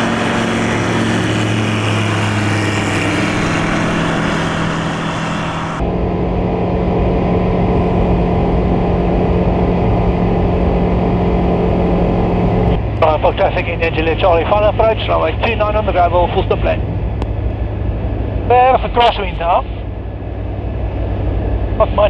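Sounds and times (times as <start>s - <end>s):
engine drone inside cabin: 0.0s - 22.0s
small plane engine passing: 0.0s - 22.0s.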